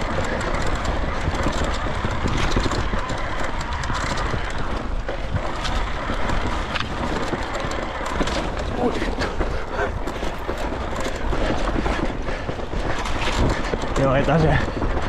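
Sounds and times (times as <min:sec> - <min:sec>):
bike clicks and rattles: 0:00.0 - 0:15.0
tyre and air rush: 0:00.0 - 0:15.0.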